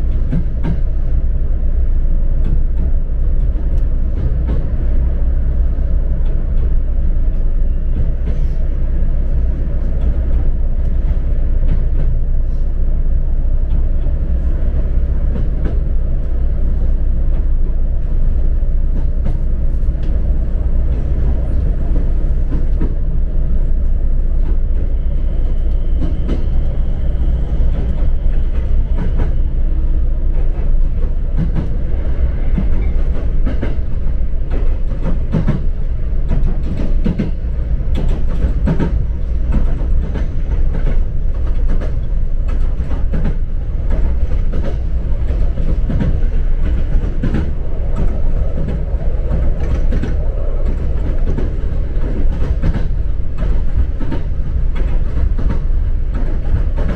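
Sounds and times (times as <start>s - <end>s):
train rumble inside carriage: 0.0s - 56.9s.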